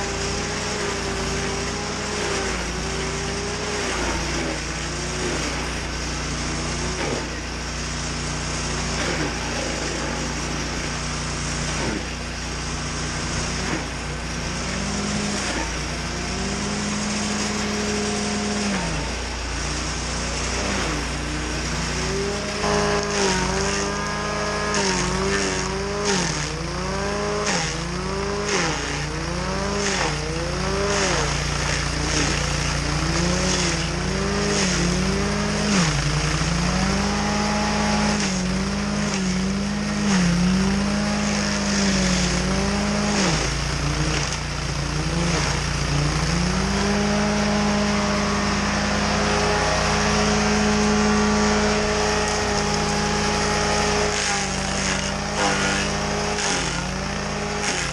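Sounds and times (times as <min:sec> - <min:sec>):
petrol engine running hard: 0:00.0 - 0:57.9.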